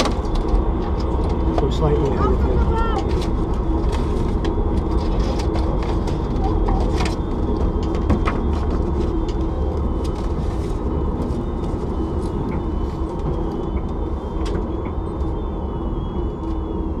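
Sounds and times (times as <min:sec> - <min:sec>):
car engine drone: 0:00.0 - 0:17.0
faint high whine: 0:00.0 - 0:17.0
road noise: 0:00.0 - 0:17.0.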